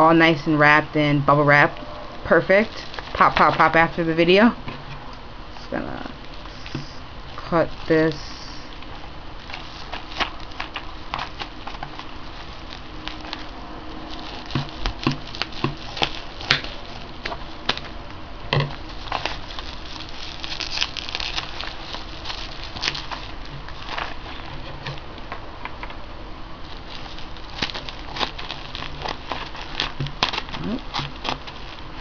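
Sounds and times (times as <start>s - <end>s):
bubble wrap crackling: 1.7s - 25.5s, 26.5s - 32.0s.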